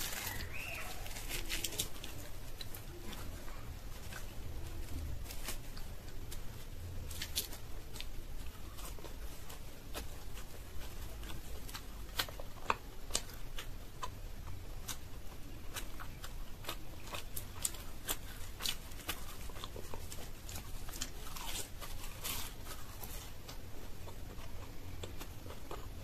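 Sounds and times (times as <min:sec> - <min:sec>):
crackly biting: 0:00.0 - 0:26.0
person chewing: 0:00.0 - 0:26.0.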